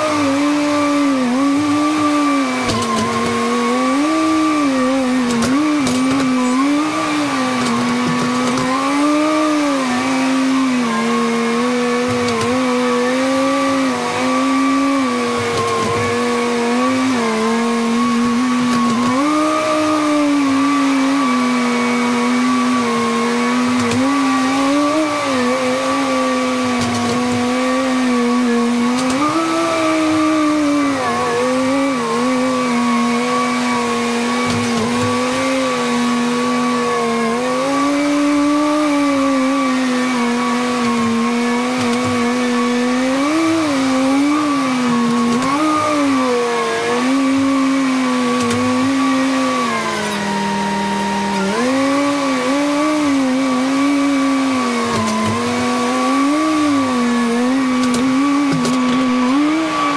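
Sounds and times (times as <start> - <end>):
engine running under load: 0.0 - 59.9
steady whine rising in pitch: 0.0 - 59.9.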